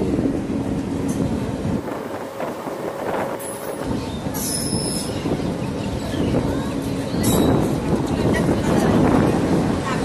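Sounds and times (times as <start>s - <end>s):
train coaches rumbling and clattering: 0.0s - 10.0s.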